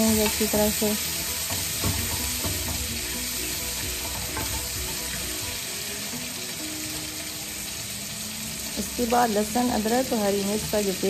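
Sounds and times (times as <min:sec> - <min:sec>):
chicken sizzling in pan: 0:00.0 - 0:11.0.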